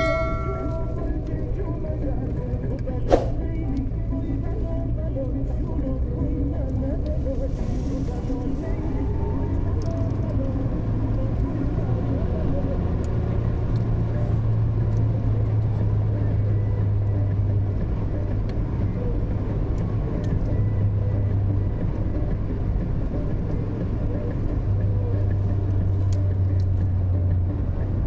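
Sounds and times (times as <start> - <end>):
car engine drone: 0.0 - 28.0
road rumble: 0.0 - 28.0.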